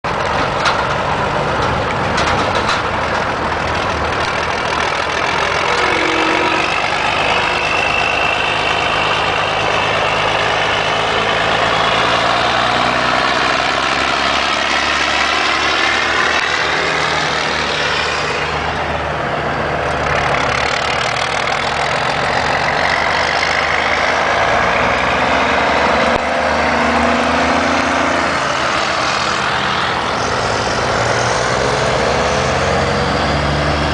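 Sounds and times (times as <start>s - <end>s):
diesel truck engines driving past: 0.0s - 33.9s.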